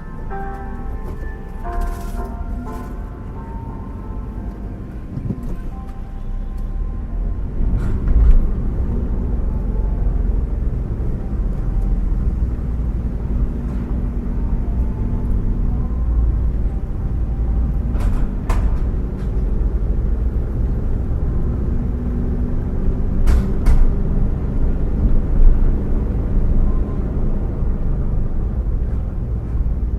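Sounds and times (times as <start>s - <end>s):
vehicle engine and road rumble: 0.0s - 29.9s.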